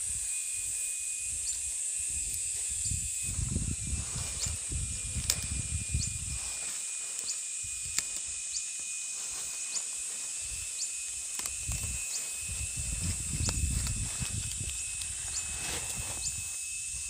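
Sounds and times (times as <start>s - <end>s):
high-pitched insect drone: 0.0s - 17.0s
insect chirps: 0.0s - 17.0s.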